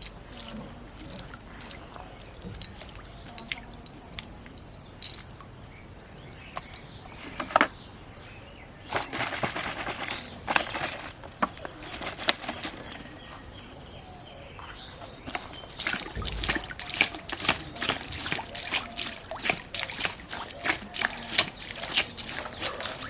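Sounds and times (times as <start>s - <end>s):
pond water sloshing and splashing: 0.0s - 5.6s, 8.9s - 13.7s, 14.4s - 23.0s.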